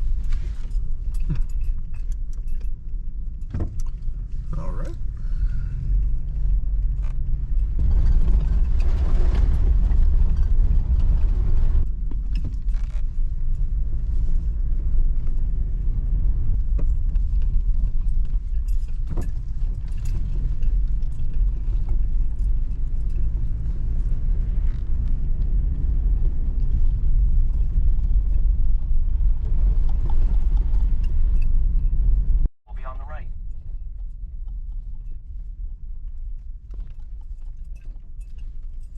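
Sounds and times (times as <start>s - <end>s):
car body creaks and rattles: 0.0s - 38.9s
engine and tyres rumbling: 0.0s - 38.9s.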